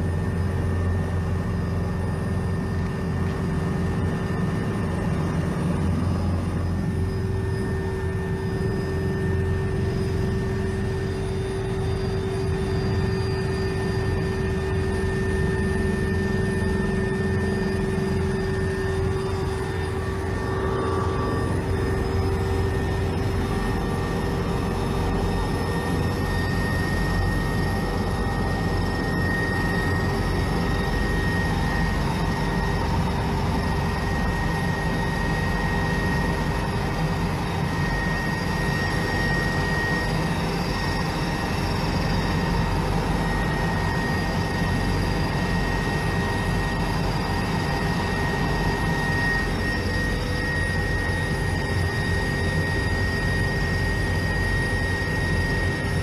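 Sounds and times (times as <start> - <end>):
helicopter cabin noise: 0.0 - 56.0.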